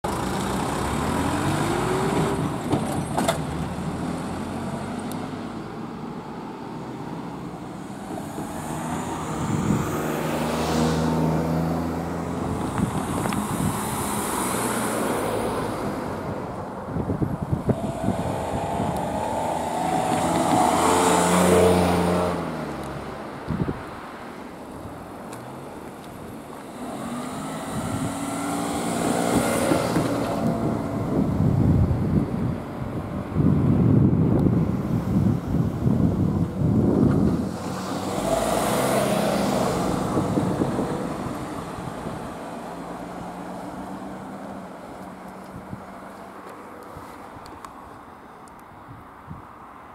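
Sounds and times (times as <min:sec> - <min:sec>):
vehicles passing over crossing: 0:00.0 - 0:49.9.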